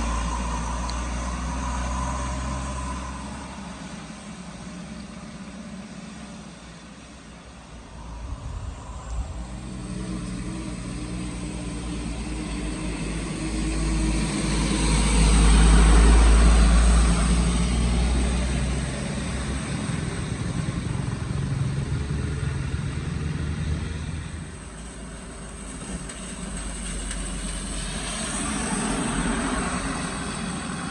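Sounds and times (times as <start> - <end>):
vehicle engine passing: 0.0 - 30.9.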